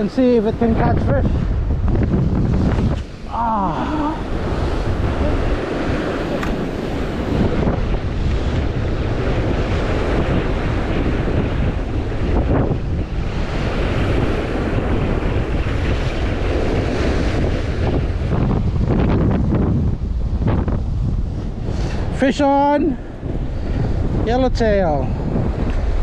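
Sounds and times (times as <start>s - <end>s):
sea surf on rocks: 0.0s - 26.0s
wind buffeting microphone: 0.0s - 26.0s.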